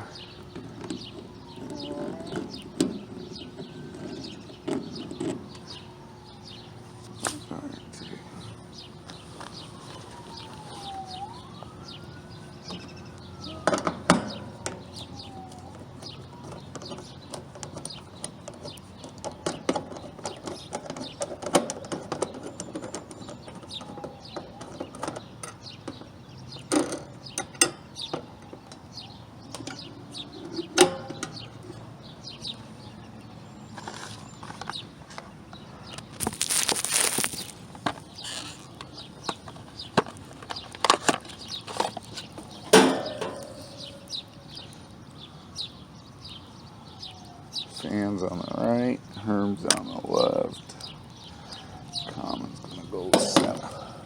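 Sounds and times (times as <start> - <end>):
distant siren wailing: 0.0 - 26.0, 26.6 - 35.0, 41.8 - 54.0.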